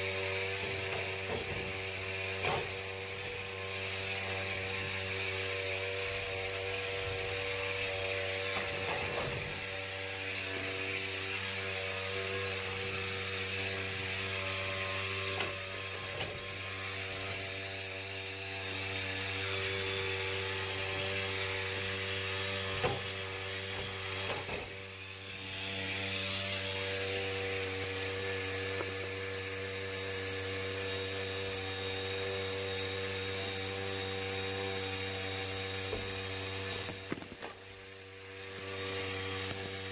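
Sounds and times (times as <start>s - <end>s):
hvac equipment humming: 0.0s - 39.9s.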